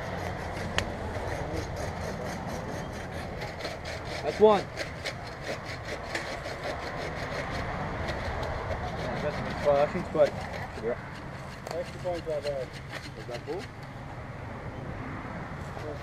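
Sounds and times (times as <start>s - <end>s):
rhythmic rasping strokes: 0.0s - 13.9s.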